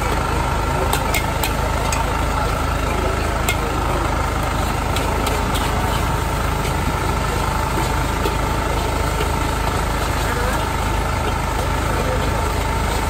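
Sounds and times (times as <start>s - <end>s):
gas wok burner rumbling: 0.0s - 13.0s
metal spatula scraping wok: 0.9s - 13.0s.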